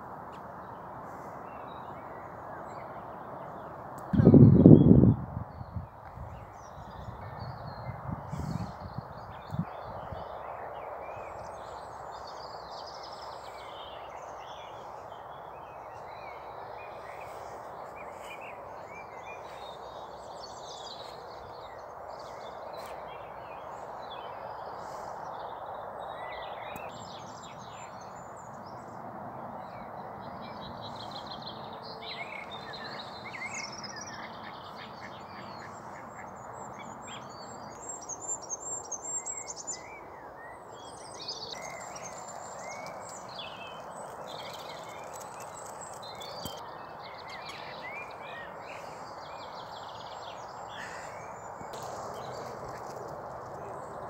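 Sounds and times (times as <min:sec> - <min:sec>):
outdoor background noise: 0:00.0 - 0:54.0
songbirds chirping and singing: 0:00.3 - 0:54.0.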